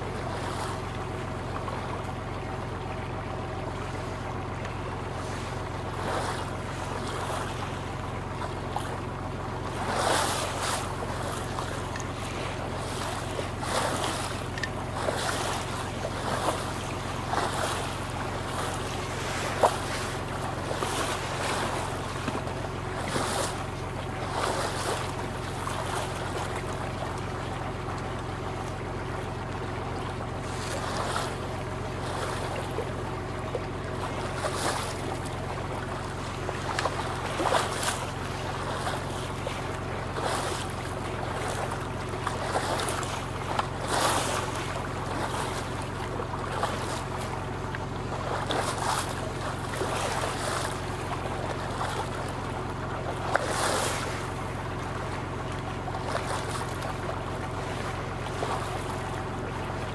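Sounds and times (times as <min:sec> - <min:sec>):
boat engine droning: 0:00.0 - 0:59.9
water splashing along hull: 0:00.0 - 0:59.9.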